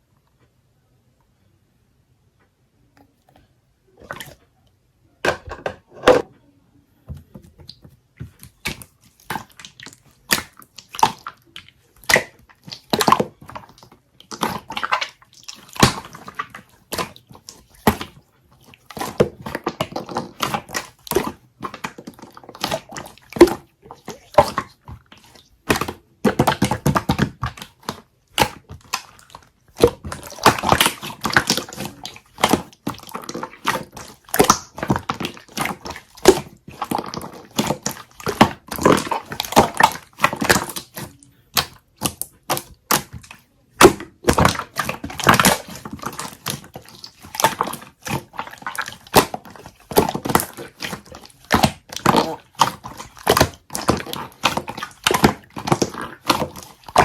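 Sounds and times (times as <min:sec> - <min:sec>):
hands squishing sticky slime: 0:03.9 - 0:04.4, 0:07.1 - 0:57.0.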